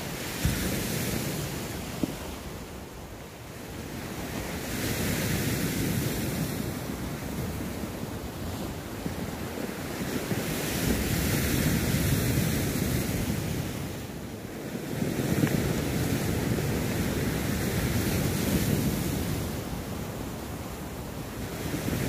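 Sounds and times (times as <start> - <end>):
sea waves washing on shore: 0.0 - 22.0
wind on microphone: 0.0 - 22.0.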